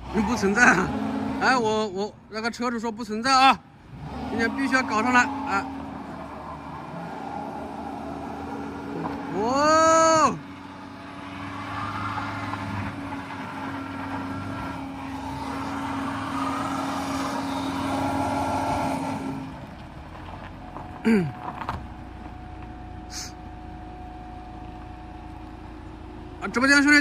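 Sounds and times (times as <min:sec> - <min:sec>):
car engine running under load: 0:00.0 - 0:02.3, 0:03.6 - 0:27.0.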